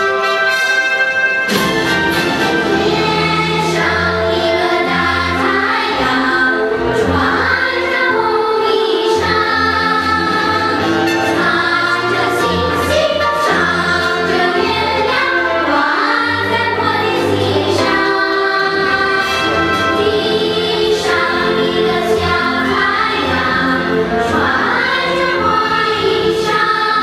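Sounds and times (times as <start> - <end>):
children's choir singing: 0.0 - 27.0
instrumental accompaniment with bass: 0.0 - 27.0.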